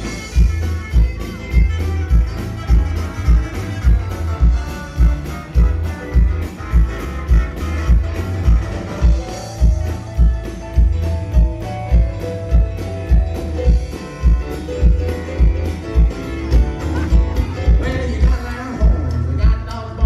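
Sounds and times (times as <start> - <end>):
bass: 0.0 - 20.0.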